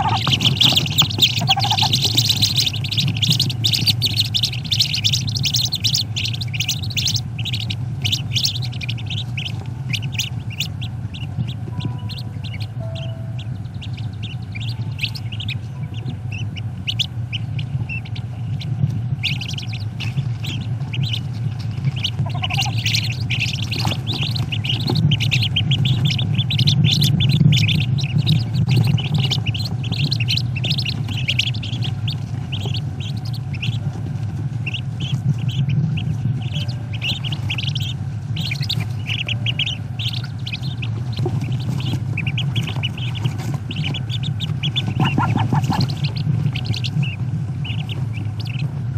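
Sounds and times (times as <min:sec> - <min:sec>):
ducklings peeping: 0:00.0 - 0:48.9
steady low hum: 0:00.0 - 0:48.9.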